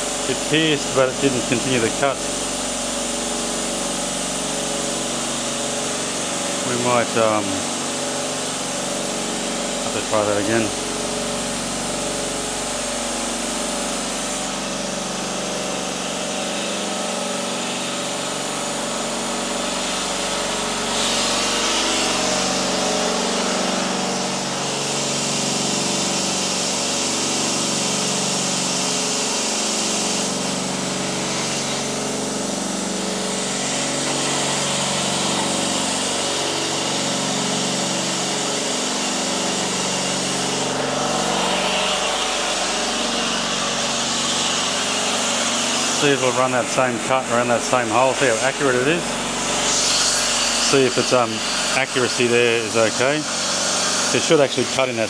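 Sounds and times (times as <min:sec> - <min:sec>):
air compressor motor hum: 0:00.0 - 0:55.0.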